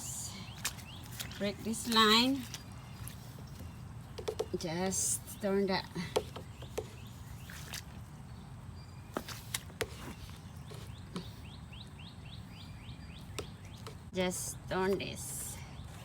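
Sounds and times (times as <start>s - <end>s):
bird chirping: 0.0s - 14.2s.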